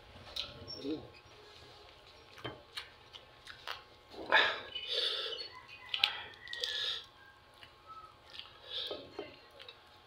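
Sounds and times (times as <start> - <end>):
man chewing food: 1.5 - 10.0.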